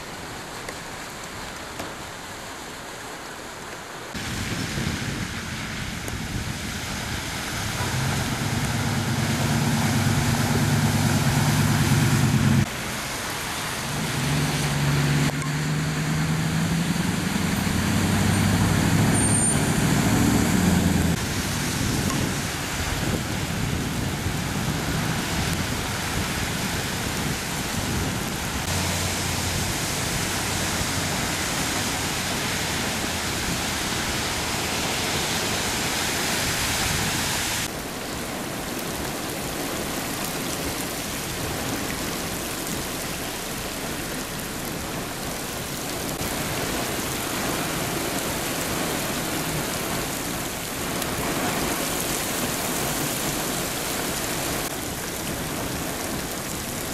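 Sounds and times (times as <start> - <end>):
heavy rain on standing water: 0.0 - 56.9
vehicle tyres splashing water: 4.1 - 56.9.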